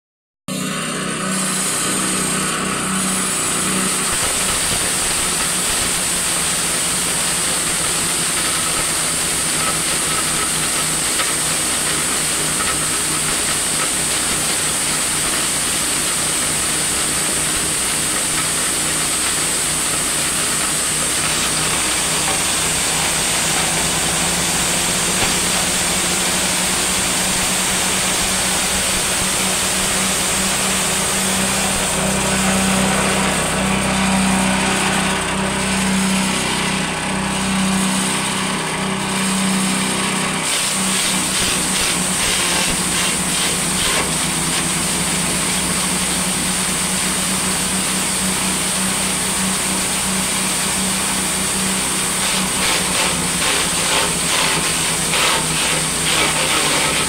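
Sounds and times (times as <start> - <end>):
grinder hissing: 0.5 - 57.0
small engine running: 0.5 - 57.0.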